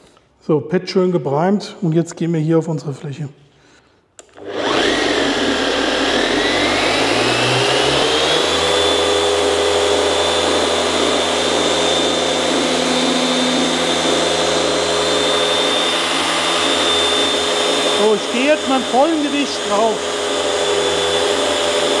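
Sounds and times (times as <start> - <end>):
orbital polisher motor whine: 4.3 - 22.0.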